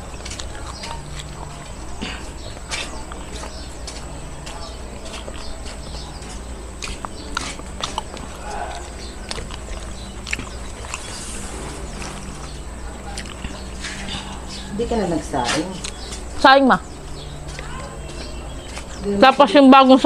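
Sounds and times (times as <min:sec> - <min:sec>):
chewing and mouth sounds: 0:00.0 - 0:19.6
steady low hum: 0:00.0 - 0:20.0.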